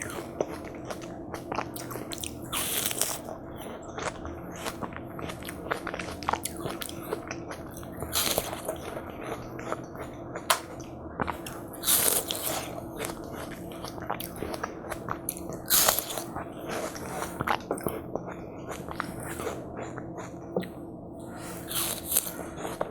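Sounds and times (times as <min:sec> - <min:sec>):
watermelon chewing: 0:00.0 - 0:22.9.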